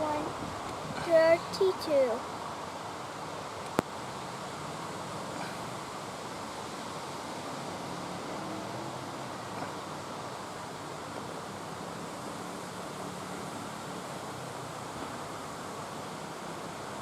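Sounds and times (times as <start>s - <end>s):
outdoor ambience hiss: 0.0s - 17.0s.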